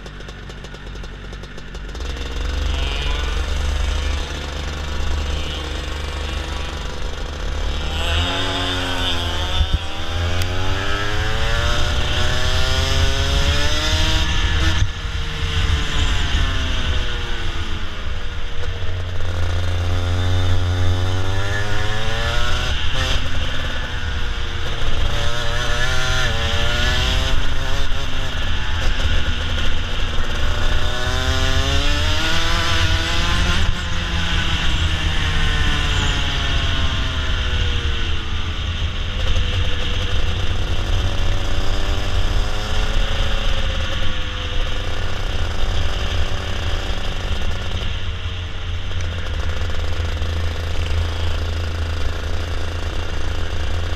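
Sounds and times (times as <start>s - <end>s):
go-kart engine revving: 0.0s - 53.9s
low rumble of wind and vibration: 0.0s - 53.9s.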